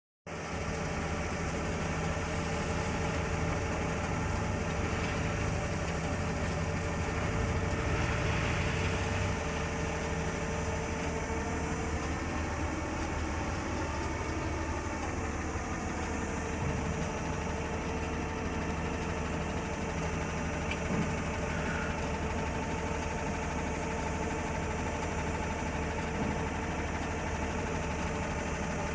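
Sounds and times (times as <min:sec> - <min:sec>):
construction machine engine running: 0:00.3 - 0:28.9.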